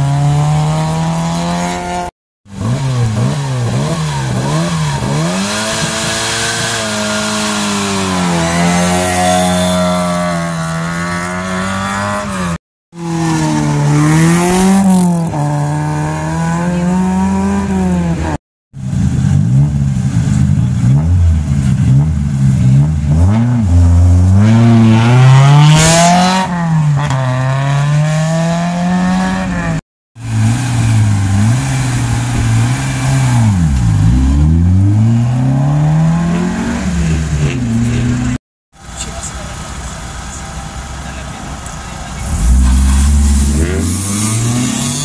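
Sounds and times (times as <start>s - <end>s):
race car engines revving: 0.0s - 45.0s.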